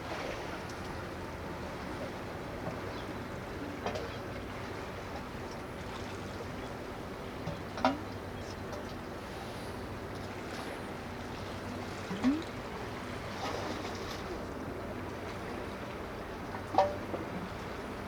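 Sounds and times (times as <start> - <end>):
water: 0.0 - 18.0
wind: 0.0 - 18.0.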